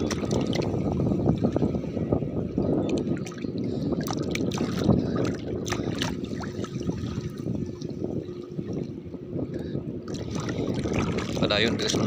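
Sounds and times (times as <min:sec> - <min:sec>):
water splashing beside boat: 0:00.0 - 0:09.2, 0:10.0 - 0:12.0.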